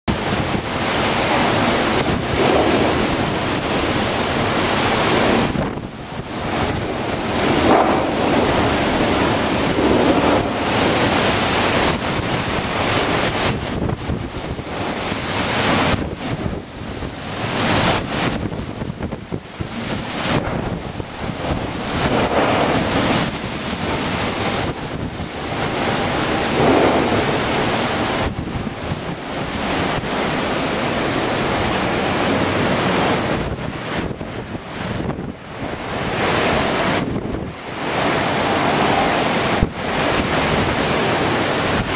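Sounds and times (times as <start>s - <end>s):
hurricane winds gusting: 0.1s - 41.9s
rain blowing: 0.1s - 41.9s
wind buffeting microphone: 0.1s - 41.9s.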